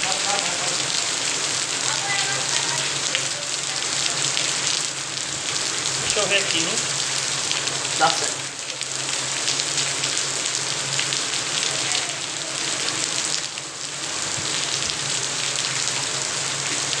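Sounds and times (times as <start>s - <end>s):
rain on concrete: 0.0s - 17.0s
water drips and splashes: 0.0s - 17.0s.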